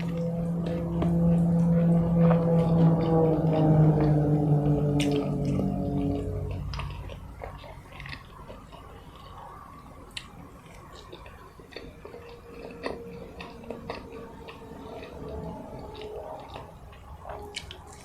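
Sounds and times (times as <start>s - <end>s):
close-miked chewing: 0.0s - 18.0s.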